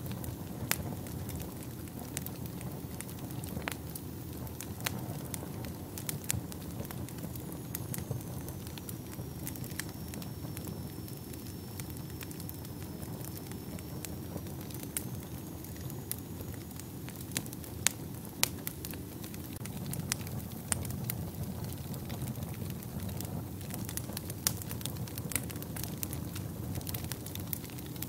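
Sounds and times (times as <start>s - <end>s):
fire burning in fireplace: 0.0s - 28.0s.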